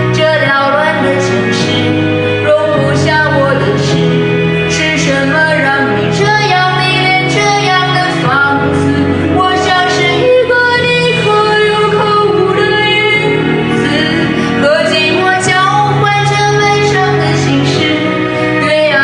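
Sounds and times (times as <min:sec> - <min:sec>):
instrumental backing: 0:00.0 - 0:19.0
woman singing: 0:00.0 - 0:19.0.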